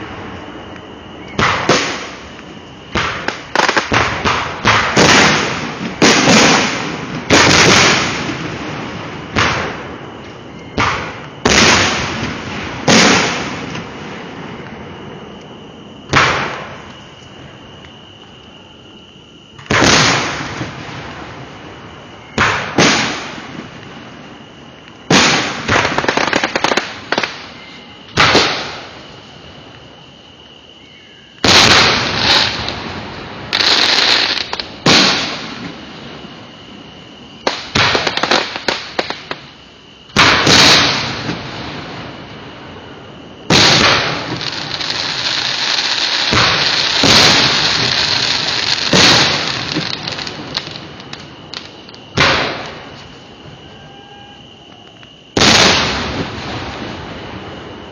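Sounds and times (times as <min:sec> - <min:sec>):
fireworks crackling: 0:00.0 - 0:30.5, 0:31.3 - 0:57.9
fireworks bursting with bangs: 0:00.0 - 0:30.8, 0:31.4 - 0:57.9.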